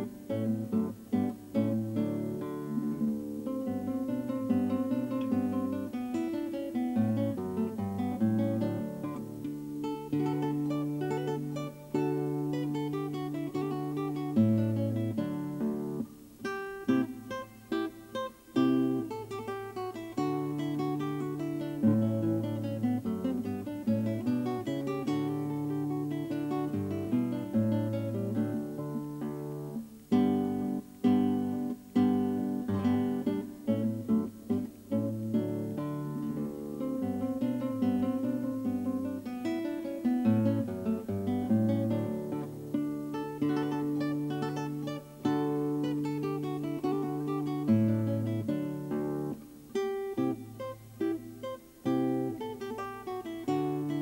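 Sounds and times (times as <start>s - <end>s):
acoustic guitar music: 0.0s - 54.0s.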